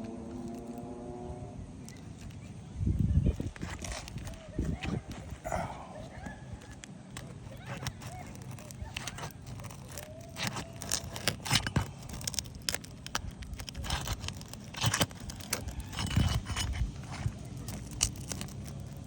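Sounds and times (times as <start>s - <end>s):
roof shingles scraping: 0.0s - 19.0s.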